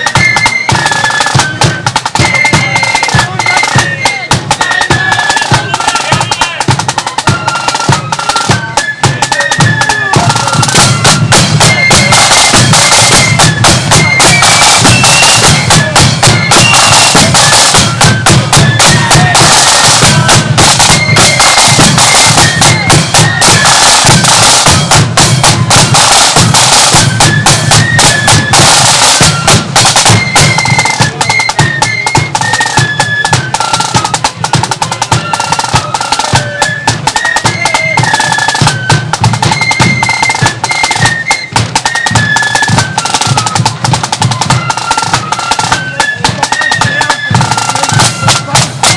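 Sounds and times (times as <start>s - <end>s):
flute melody: 0.0s - 48.9s
rapid snare drumming: 0.0s - 48.9s.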